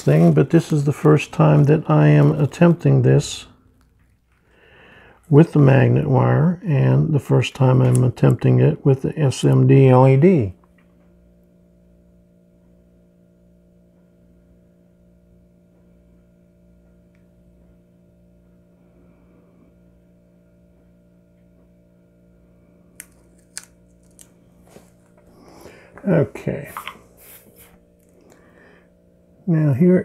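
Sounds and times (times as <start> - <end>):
faint electrical hum: 0.0 - 30.0.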